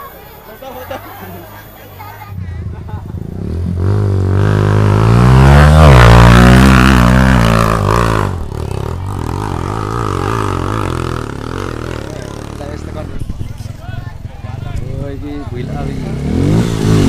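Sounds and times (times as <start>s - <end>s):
motorcycle engine revving: 2.3s - 17.0s.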